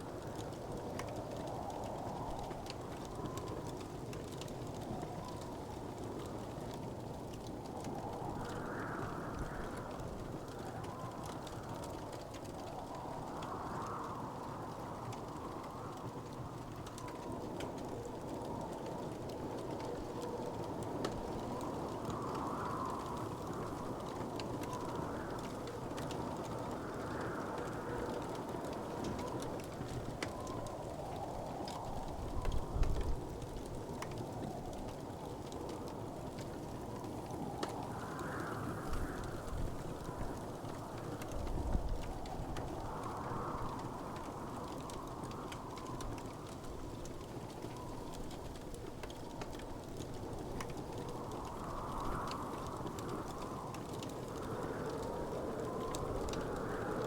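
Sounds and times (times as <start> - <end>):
small pops and ticks: 0.0 - 57.0
wood fire crackling: 0.0 - 57.0.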